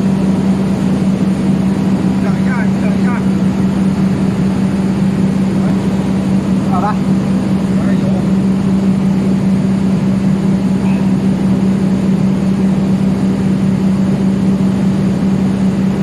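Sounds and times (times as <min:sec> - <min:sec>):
machine droning: 0:00.0 - 0:16.0.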